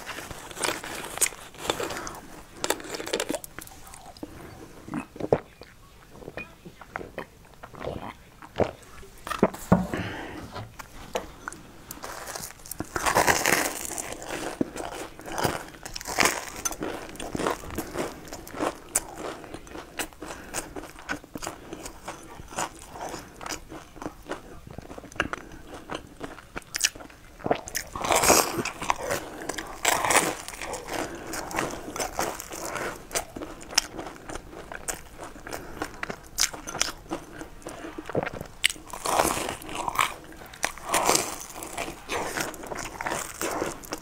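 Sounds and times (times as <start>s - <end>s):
chewing crunchy pastry: 0.0s - 44.0s.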